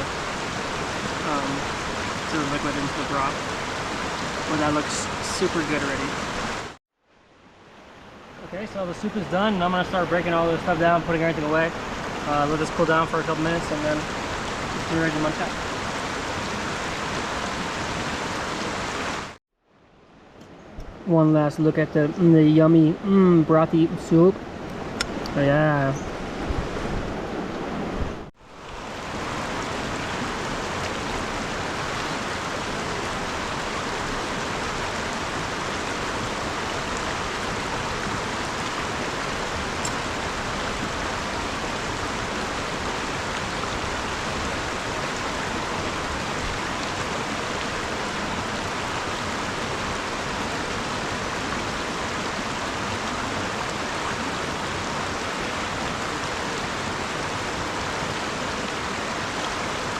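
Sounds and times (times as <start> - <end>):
river water rushing: 0.0 - 19.4, 23.8 - 59.9.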